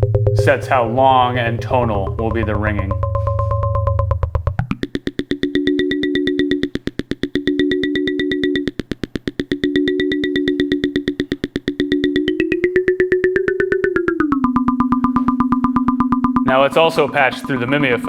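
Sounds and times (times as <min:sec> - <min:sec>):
resonant filter pings: 0:00.0 - 0:18.0.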